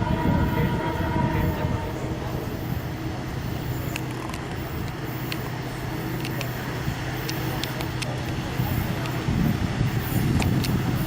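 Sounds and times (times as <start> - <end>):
locomotive humming: 0.0 - 11.0.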